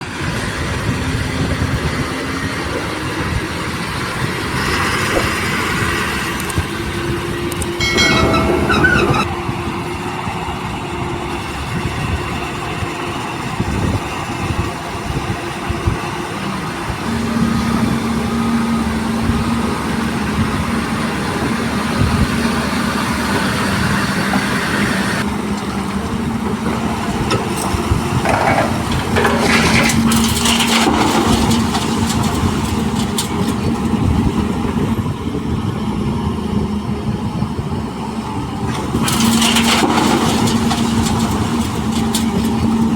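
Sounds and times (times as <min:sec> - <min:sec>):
diesel excavator humming: 0:00.4 - 0:42.9.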